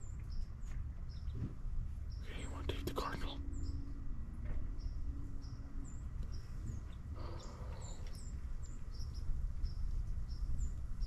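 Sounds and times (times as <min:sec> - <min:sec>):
small songbirds chirping: 0:00.0 - 0:11.0
steady low rumble: 0:00.0 - 0:11.0.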